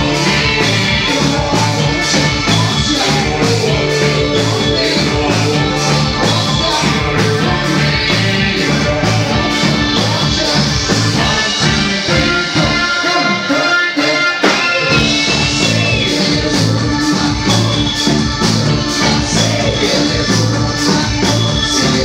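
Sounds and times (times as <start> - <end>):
steady drum beat: 0.0 - 13.7, 14.4 - 22.0
guitar: 0.0 - 22.0
live band music: 0.0 - 22.0.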